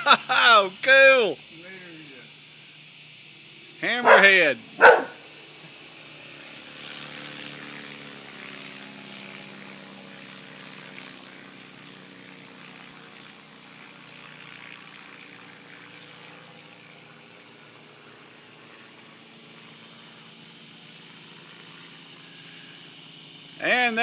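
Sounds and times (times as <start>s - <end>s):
distant propeller plane droning: 0.0s - 24.0s.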